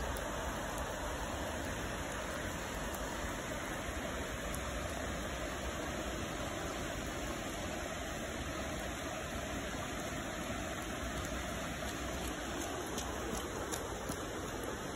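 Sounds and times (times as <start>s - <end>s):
steady rain: 0.0s - 14.9s.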